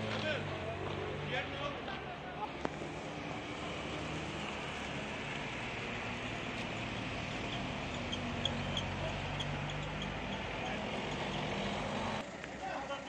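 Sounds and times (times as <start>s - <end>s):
cars passing slowly: 0.0s - 13.0s.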